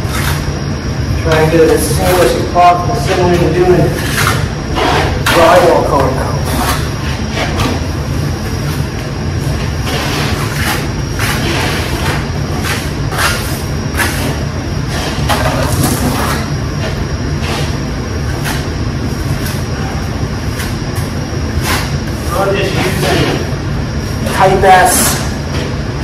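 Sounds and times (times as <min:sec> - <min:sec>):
low droning hum: 0:00.0 - 0:26.0.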